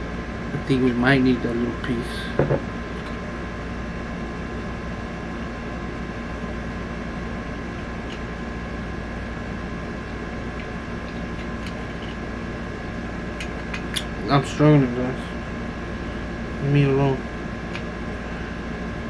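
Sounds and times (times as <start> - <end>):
air conditioning hum: 0.0 - 19.0.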